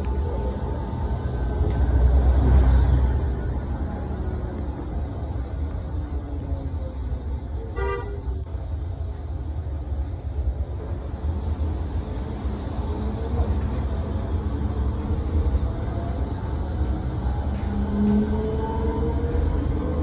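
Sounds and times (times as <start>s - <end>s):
bus cabin rumble: 0.0s - 20.0s.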